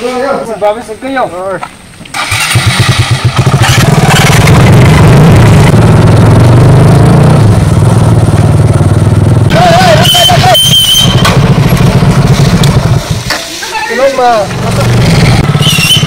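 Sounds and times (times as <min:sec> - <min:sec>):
motorcycle engines revving: 0:02.1 - 0:16.0.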